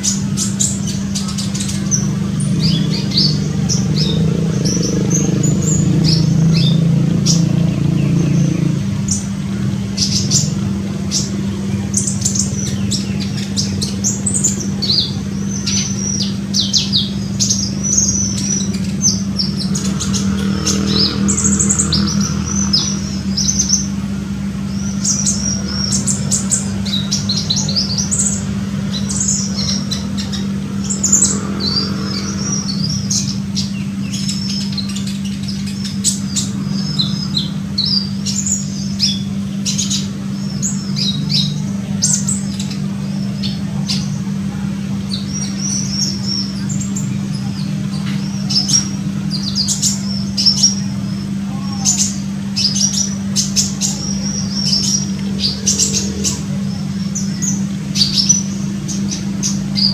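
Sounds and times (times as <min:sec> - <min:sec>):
bird chirping rapidly: 0:00.0 - 0:59.9
low hum: 0:00.0 - 0:59.9.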